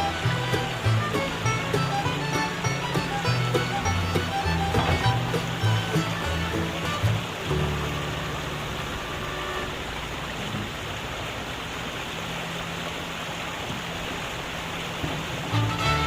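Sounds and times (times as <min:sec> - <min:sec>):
continuous broad hiss: 0:00.0 - 0:16.0
excavator diesel engine running: 0:00.0 - 0:16.0.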